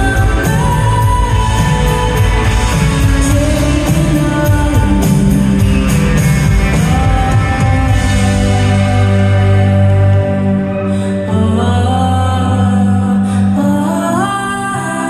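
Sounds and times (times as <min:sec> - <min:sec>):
electric guitars: 0:00.0 - 0:15.0
keyboard: 0:00.0 - 0:15.0
person singing: 0:00.0 - 0:15.0.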